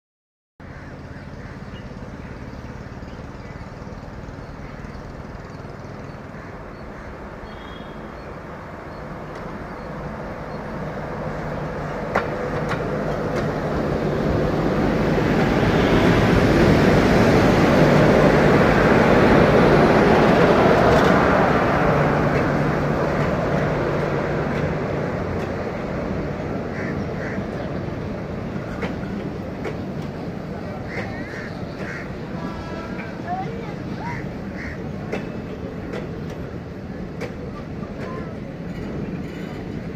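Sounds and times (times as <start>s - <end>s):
train wheels rumbling on rail: 0.6s - 39.9s.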